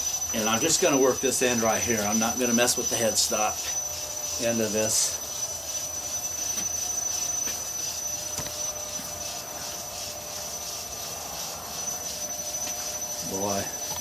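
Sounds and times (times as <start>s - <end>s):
wood lathe running: 0.0s - 14.0s.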